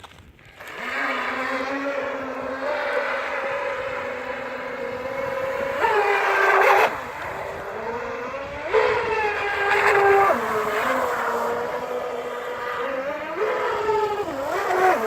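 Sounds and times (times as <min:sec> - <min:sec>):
model jet ski motor whining: 0:00.1 - 0:15.0.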